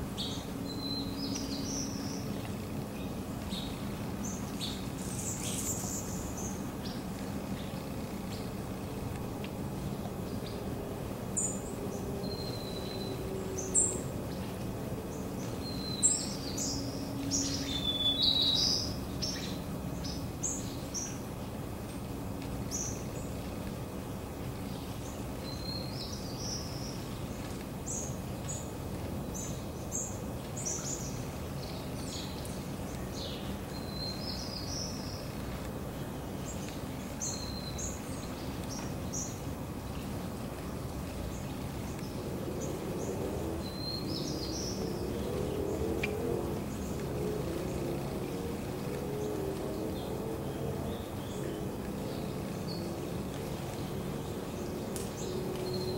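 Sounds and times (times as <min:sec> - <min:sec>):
distant traffic hum: 0:00.0 - 0:55.9
small songbirds chirping: 0:00.0 - 0:55.9.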